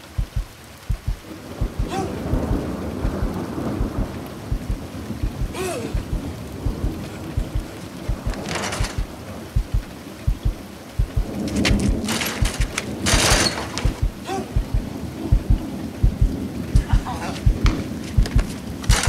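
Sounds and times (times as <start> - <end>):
dull low thumps: 0.0 - 12.8, 13.8 - 19.0
rain: 0.0 - 19.0
thunder rumbling: 0.0 - 19.0.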